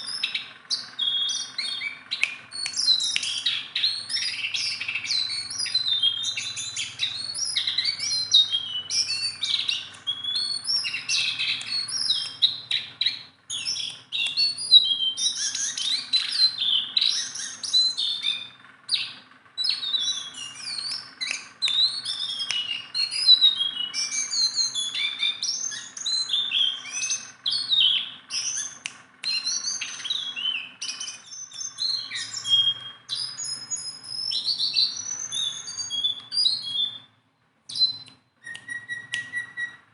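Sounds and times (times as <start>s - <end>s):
songbird singing rapid chirps: 0.0s - 39.9s.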